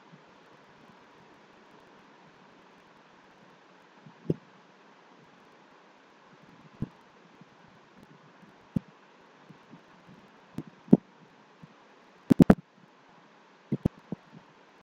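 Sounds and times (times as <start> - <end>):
faint steady hiss: 0.0 - 14.8.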